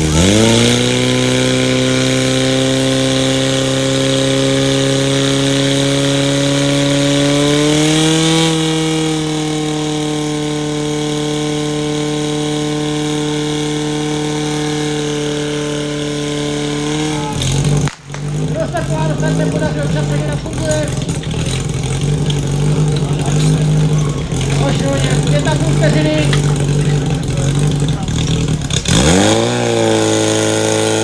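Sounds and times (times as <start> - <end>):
pump engine high-pitched drone: 0.0 - 31.0.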